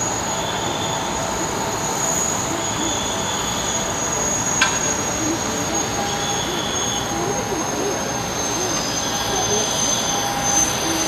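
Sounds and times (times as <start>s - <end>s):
airport machinery roar: 0.0s - 11.0s
high-pitched whine: 0.0s - 11.0s.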